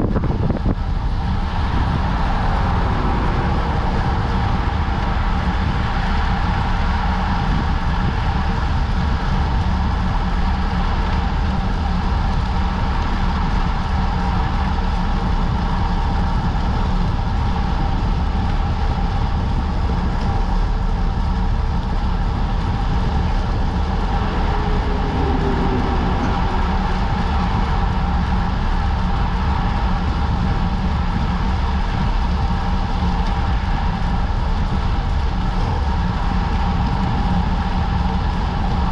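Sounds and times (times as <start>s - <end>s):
bicycle tyres rolling on asphalt: 0.0s - 38.9s
wind rushing over microphone: 0.0s - 38.9s.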